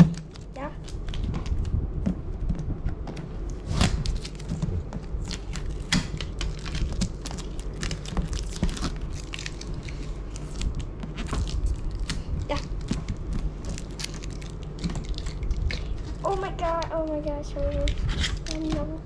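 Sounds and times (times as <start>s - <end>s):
tape peeling off cardboard: 0.0s - 16.2s, 17.8s - 18.9s.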